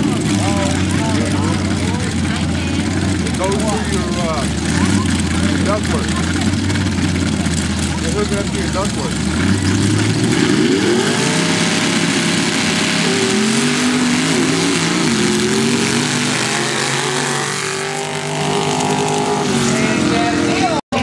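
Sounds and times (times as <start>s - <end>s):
drag-racing engine at high revs: 0.0s - 21.0s.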